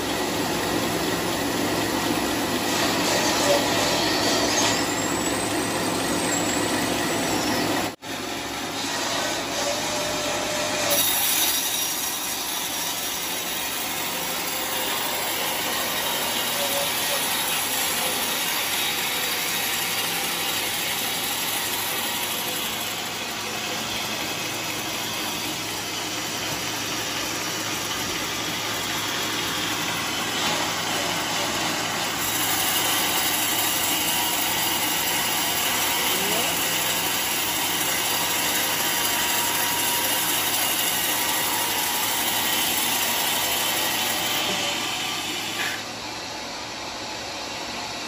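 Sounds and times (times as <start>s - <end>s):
band saw cutting through log: 0.0s - 48.0s.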